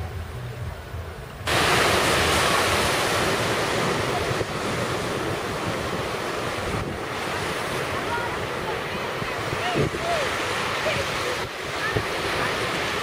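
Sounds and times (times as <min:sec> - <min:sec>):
low wind rumble: 0:00.0 - 0:13.0
wind on microphone: 0:00.0 - 0:13.0
surf breaking on beach: 0:01.5 - 0:13.0.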